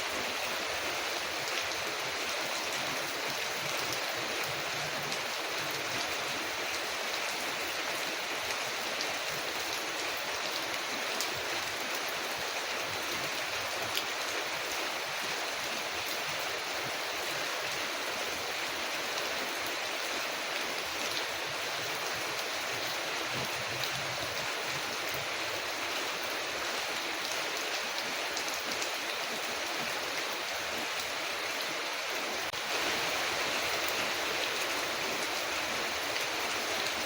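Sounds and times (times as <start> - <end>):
rain on a window: 0.0 - 31.6.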